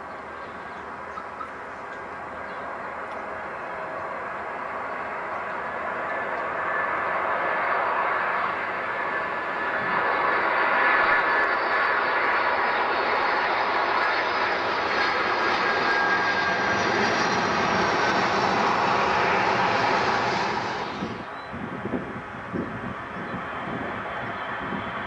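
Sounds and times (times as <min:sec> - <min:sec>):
high jet whine: 0:00.0 - 0:25.0
jet engines rumbling: 0:00.0 - 0:25.0.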